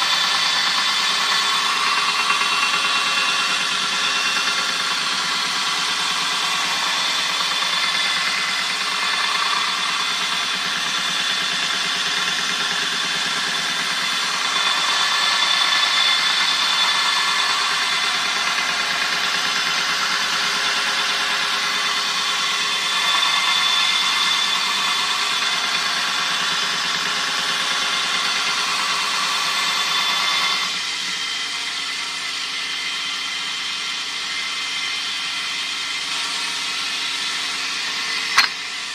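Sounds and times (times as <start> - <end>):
belt sander whirring: 0.0 - 38.9.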